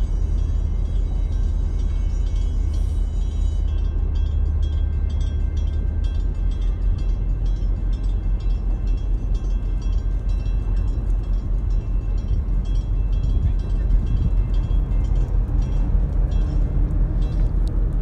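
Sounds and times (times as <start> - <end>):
diesel engines rumbling: 0.0 - 18.0.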